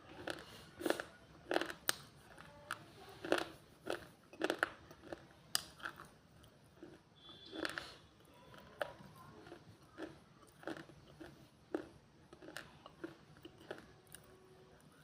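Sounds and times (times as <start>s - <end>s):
brittle chewing crunches: 0.1s - 14.3s.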